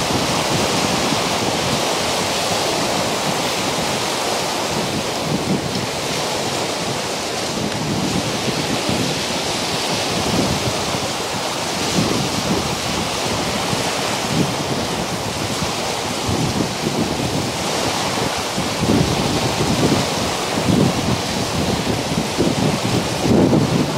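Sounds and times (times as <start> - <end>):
waves breaking on rocky shore: 0.0 - 23.9
wind buffeting microphone: 0.0 - 23.9.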